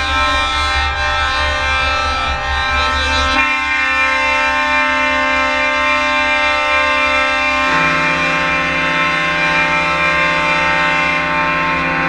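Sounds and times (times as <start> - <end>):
sustained pitched chord: 0.0 - 12.0.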